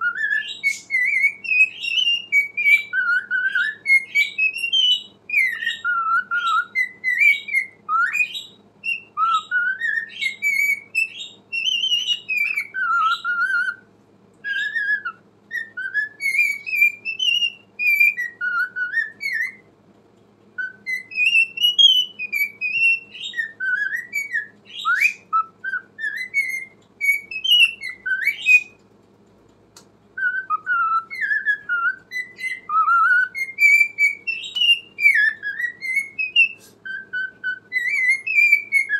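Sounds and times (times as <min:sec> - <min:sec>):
cockatiel whistling: 0:00.0 - 0:19.7, 0:20.5 - 0:28.8, 0:30.2 - 0:38.9.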